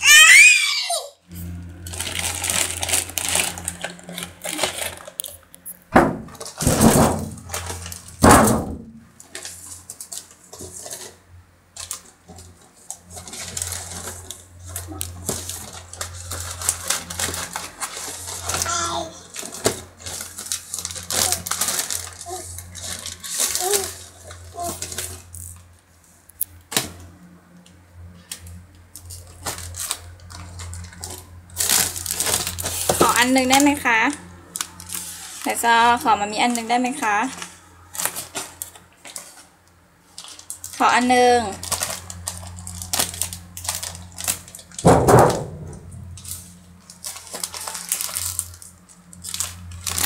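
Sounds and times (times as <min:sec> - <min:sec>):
plastic wrappers crinkling: 0:01.4 - 0:27.1, 0:28.2 - 0:50.0.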